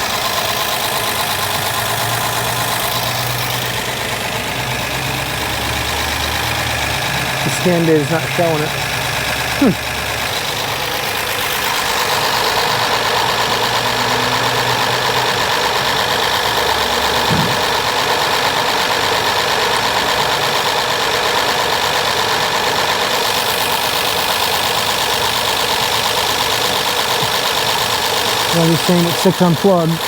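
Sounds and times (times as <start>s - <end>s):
car engine idling with misfire: 0.0s - 30.0s.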